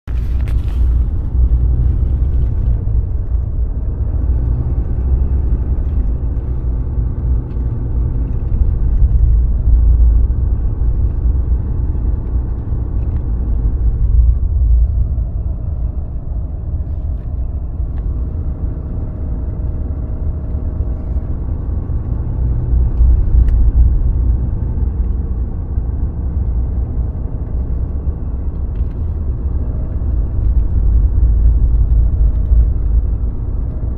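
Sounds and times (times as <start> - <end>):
diesel truck engine rumble: 0.0 - 33.9.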